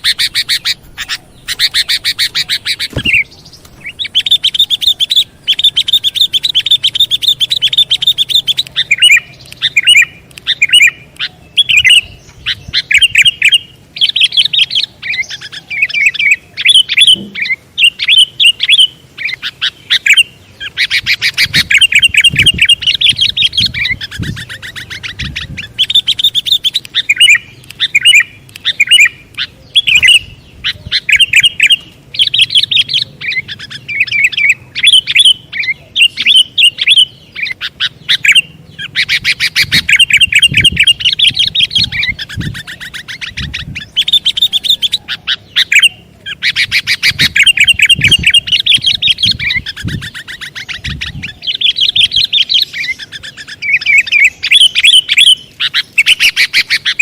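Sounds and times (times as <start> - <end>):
bird song rapid chattering: 0.0 - 57.0.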